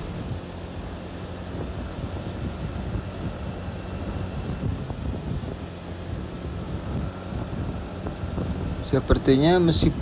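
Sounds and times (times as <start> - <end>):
motorbike engine running: 0.0 - 10.0
wind buffeting microphone: 0.0 - 10.0.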